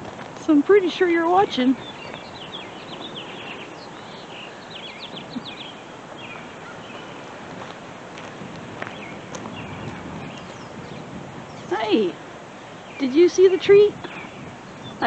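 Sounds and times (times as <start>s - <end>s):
small birds chirping: 0.0s - 15.0s
wind noise: 0.0s - 15.0s.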